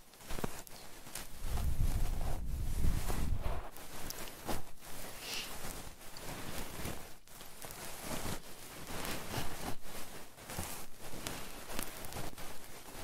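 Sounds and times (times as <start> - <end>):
rubbing on a microphone: 0.0 - 13.0.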